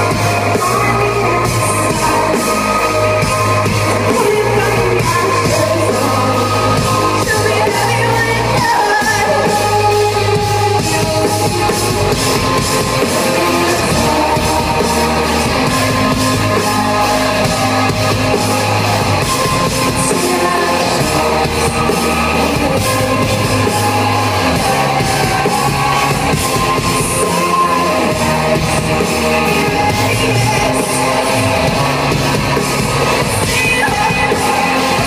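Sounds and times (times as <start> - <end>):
electric guitars: 0.0 - 35.0
keyboards: 0.0 - 35.0
person singing: 0.0 - 35.0
pulsing bass line: 0.0 - 35.0.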